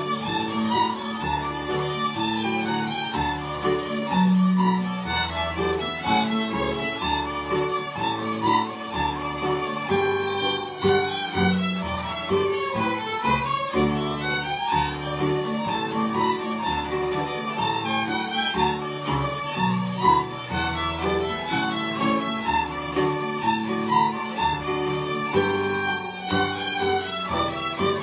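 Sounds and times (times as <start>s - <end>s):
fiddles playing a tune: 0.0s - 28.0s.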